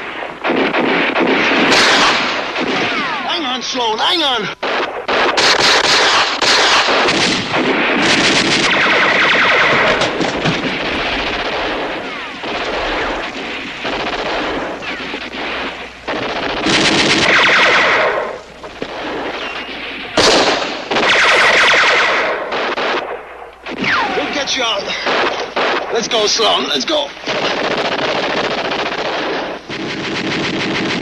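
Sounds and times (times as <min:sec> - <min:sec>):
automatic gunfire bursts: 0:00.0 - 0:03.4, 0:04.6 - 0:31.0.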